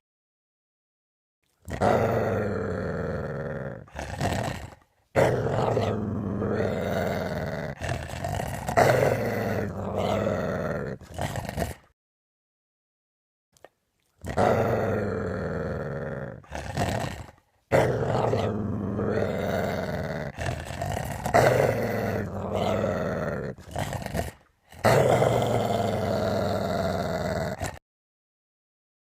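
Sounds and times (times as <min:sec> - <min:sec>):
person growling like a dog: 0:01.6 - 0:12.0, 0:14.2 - 0:27.8.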